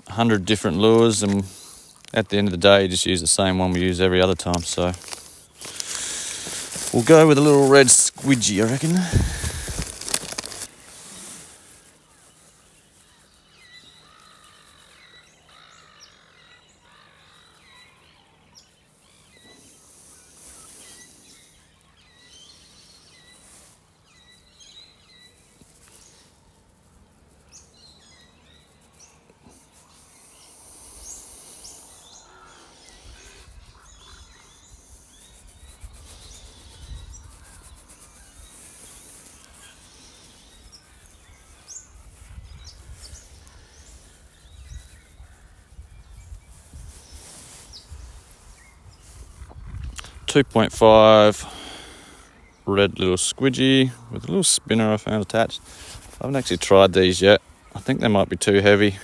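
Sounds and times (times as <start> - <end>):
birds chirping faintly: 0.0 - 59.0.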